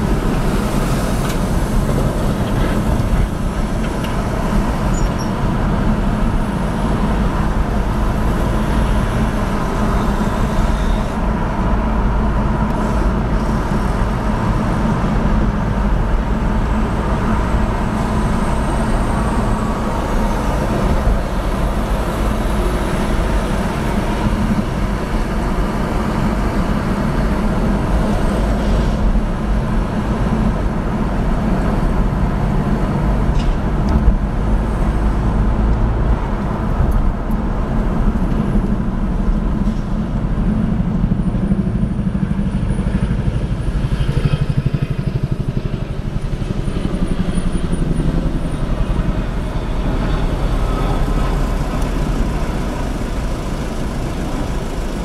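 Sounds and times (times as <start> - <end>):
car road and engine noise: 0.0 - 55.0
passing traffic: 0.0 - 55.0.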